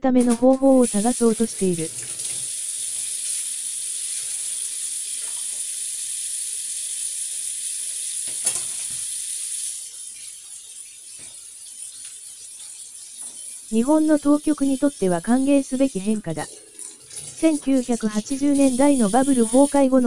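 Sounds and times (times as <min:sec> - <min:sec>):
steady high hiss: 0:00.2 - 0:02.8, 0:03.4 - 0:16.5, 0:17.2 - 0:20.0.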